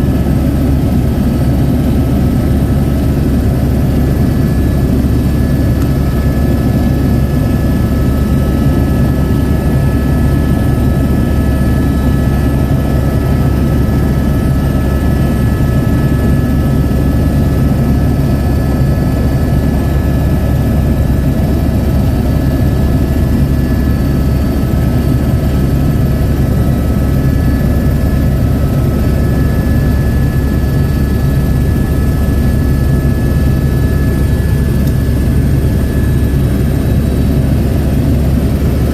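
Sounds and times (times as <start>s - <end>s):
helicopter in flight: 0.0s - 38.9s.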